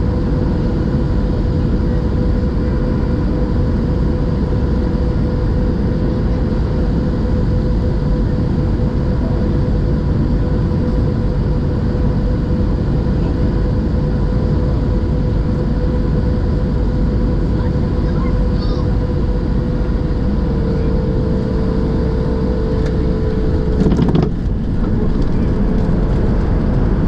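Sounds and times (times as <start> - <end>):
airliner cabin engine rumble: 0.0 - 27.0
constant jet engine whine: 0.0 - 27.0.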